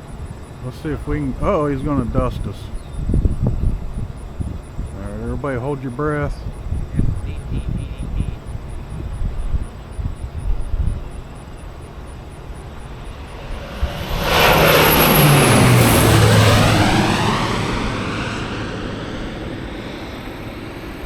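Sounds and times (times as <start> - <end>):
airplane engine passing overhead: 0.0 - 21.0.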